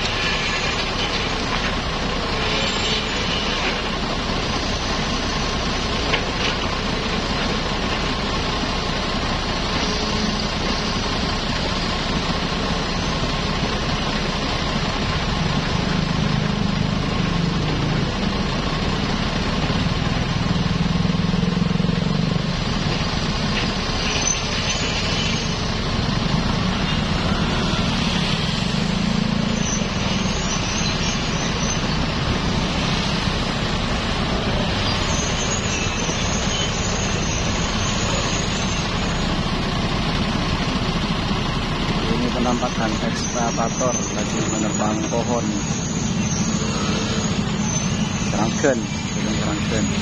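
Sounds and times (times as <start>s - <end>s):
excavator diesel engine: 0.0s - 50.0s
motorbike engines idling: 0.0s - 50.0s.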